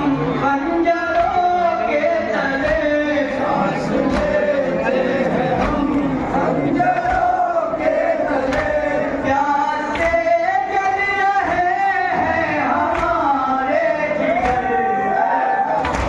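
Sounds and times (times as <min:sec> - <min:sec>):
man chanting over microphone: 0:00.0 - 0:15.9
men's voices chanting together: 0:00.0 - 0:16.0
rhythmic chest-beating: 0:00.0 - 0:16.0.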